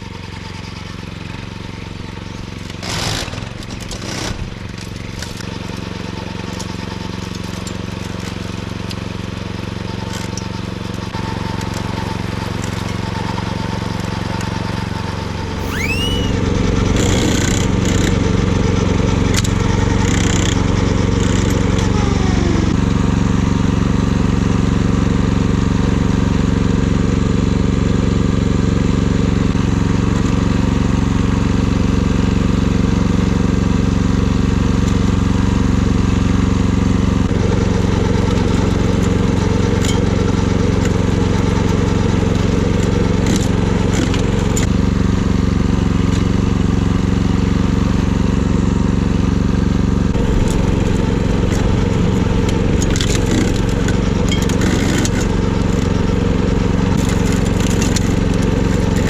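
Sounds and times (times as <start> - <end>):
mower engine cutting grass: 0.0 - 59.0.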